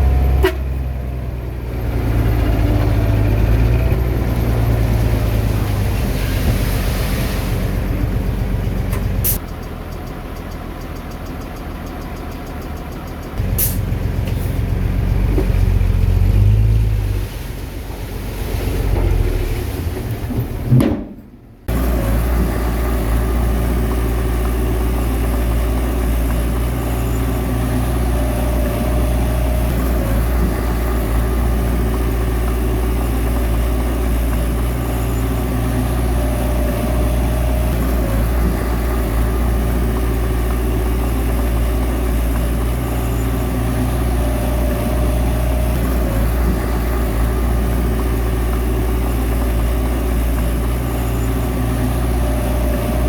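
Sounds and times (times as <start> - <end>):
higher engine tone: 0.0 - 20.7, 21.7 - 53.0
bulldozer diesel engine running: 0.0 - 53.0.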